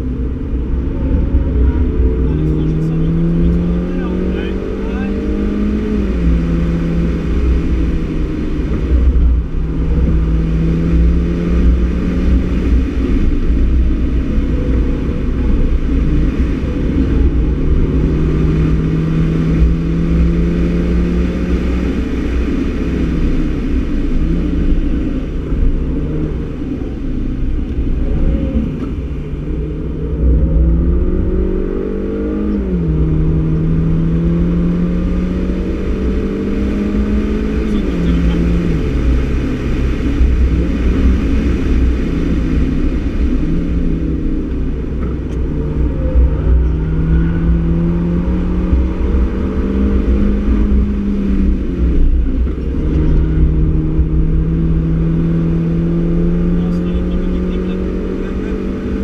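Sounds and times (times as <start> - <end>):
car engine accelerating hard: 0.0 - 59.0
road and tyre rumble: 0.0 - 59.0.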